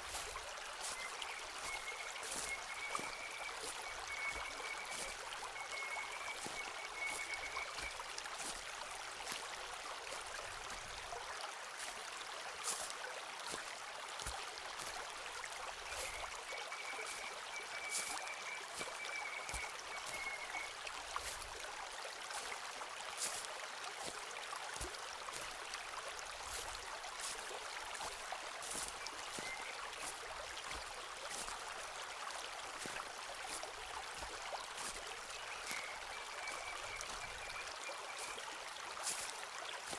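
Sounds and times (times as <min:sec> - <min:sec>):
footsteps on forest path: 0:00.0 - 0:11.1, 0:11.7 - 0:39.9
stream rushing: 0:00.0 - 0:39.9.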